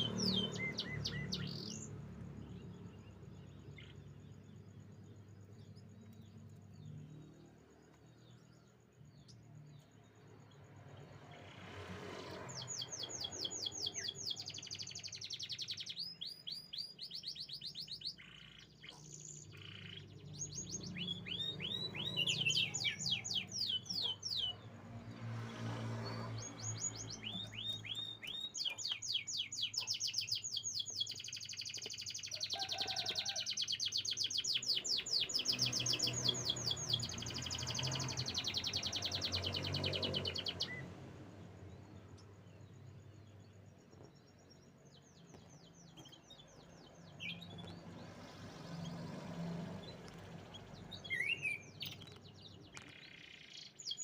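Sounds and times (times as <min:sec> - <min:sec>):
canary singing trills: 0:00.0 - 0:09.9, 0:12.2 - 0:54.0.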